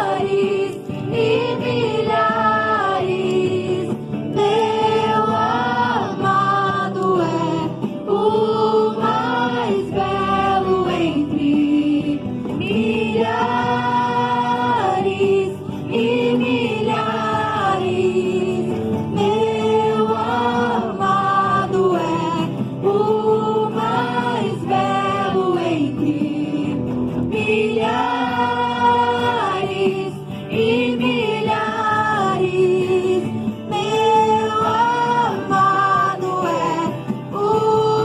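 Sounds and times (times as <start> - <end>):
group singing worship song: 0.0 - 38.0.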